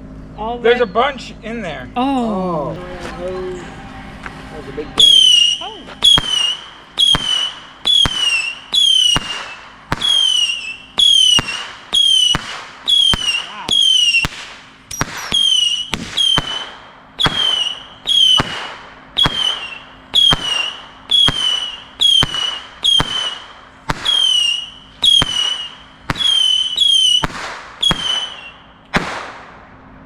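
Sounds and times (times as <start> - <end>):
firework bangs: 4.2 - 29.8
firework whistle: 5.0 - 29.4.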